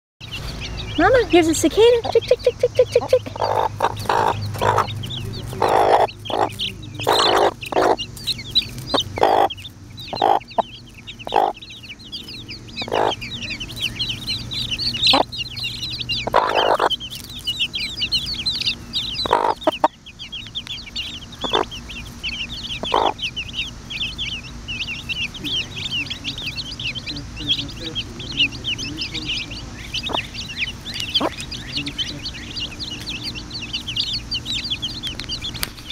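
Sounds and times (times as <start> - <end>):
chicks peeping: 0.2 - 35.9
hen clucking: 0.4 - 35.9.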